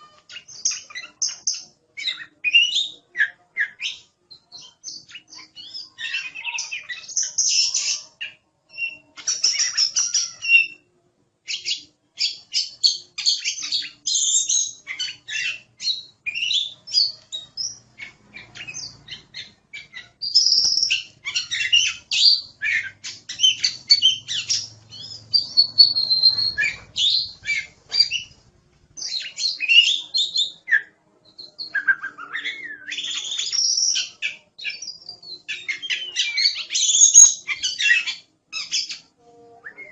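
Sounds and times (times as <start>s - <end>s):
songbird singing whistles and chatter: 0.0s - 10.9s, 11.5s - 28.4s, 29.0s - 39.9s.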